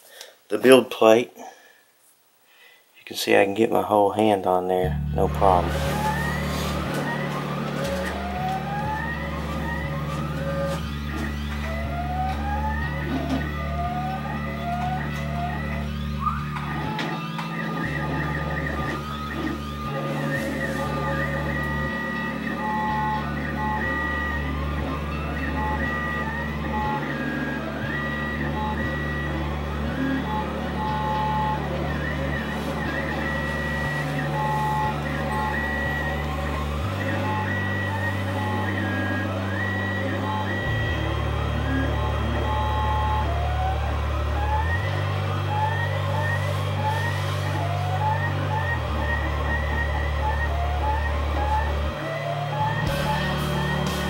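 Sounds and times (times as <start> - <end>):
short rising whirrs: 4.9 - 54.0
printer stepper motors singing: 5.0 - 54.0.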